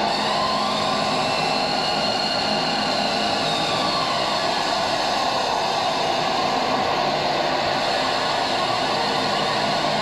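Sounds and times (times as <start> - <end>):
dense roar of electronic noise: 0.0 - 10.0.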